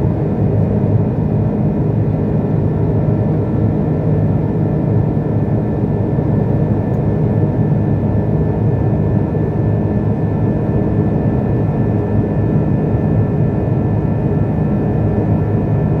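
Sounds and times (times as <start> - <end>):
jet engine and airflow rush: 0.0 - 16.0.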